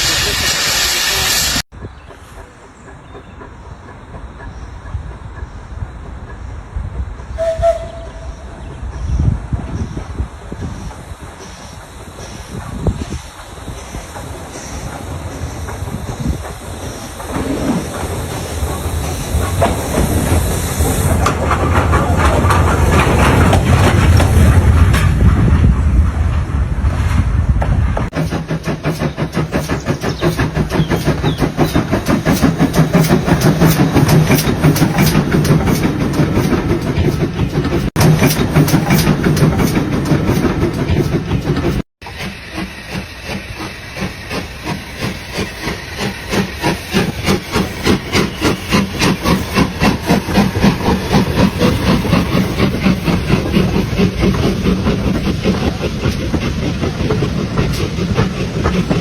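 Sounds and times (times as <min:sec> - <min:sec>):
steam hissing: 0:00.0 - 0:27.2, 0:28.0 - 0:59.0
steam locomotive chuffing: 0:00.0 - 0:59.0.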